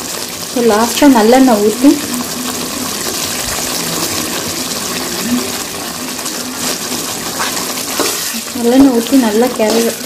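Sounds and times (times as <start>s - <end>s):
pickle sizzling in a pan: 0.0s - 10.0s.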